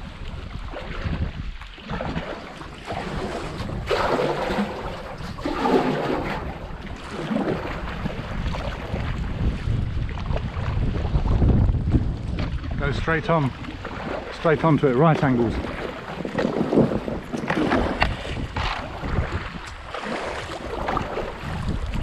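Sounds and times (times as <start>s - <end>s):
water rushing and splashing: 0.0s - 22.0s
wind buffeting microphone: 0.0s - 22.0s.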